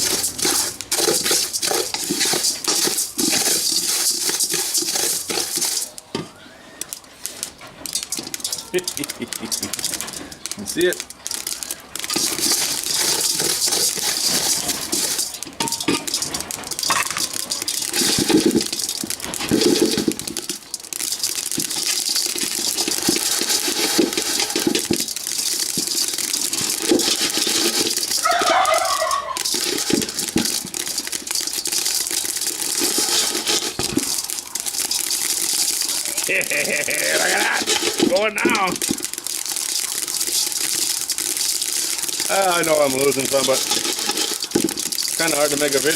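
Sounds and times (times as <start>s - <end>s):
grains popping clicks: 0.0s - 45.9s
rice grains rattling in a pan: 0.0s - 45.9s
steady hiss: 0.0s - 45.9s.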